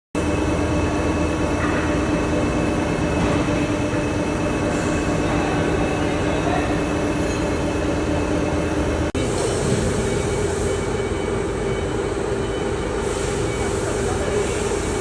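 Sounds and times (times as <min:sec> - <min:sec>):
milling machine hum: 0:00.2 - 0:15.0.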